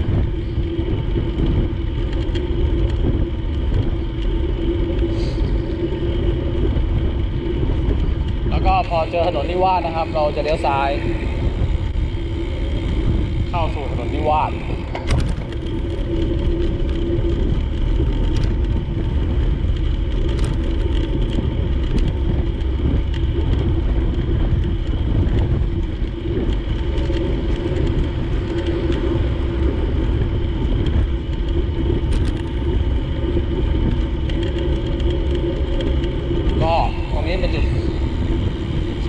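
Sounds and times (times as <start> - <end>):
low hum: 0.0 - 39.0
road noise: 0.0 - 39.0
wind rush while cycling: 0.0 - 39.0.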